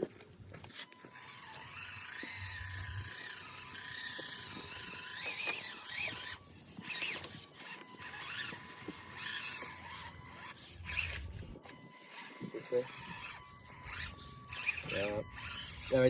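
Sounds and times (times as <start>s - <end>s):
small electric motor whining: 0.0s - 16.0s.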